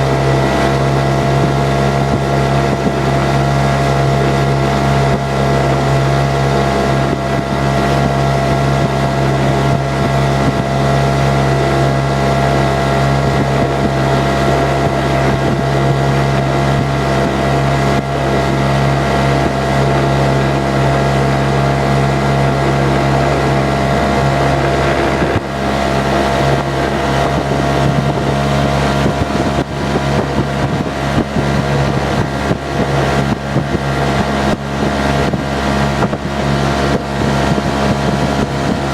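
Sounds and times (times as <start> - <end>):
outboard motor droning: 0.0 - 38.9
wind buffeting microphone: 0.0 - 38.9.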